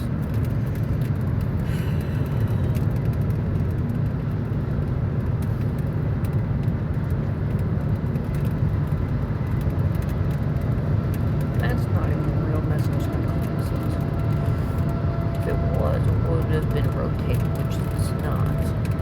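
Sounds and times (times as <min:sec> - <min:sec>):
car cabin road noise: 0:00.0 - 0:19.0.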